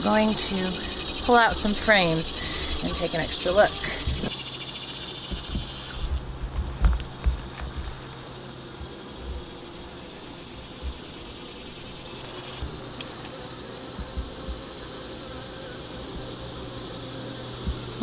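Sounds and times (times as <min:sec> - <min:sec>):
faint bumps of hive frames: 0:00.0 - 0:18.0
honeybees buzzing: 0:00.0 - 0:18.0
insects chirring: 0:00.0 - 0:18.0.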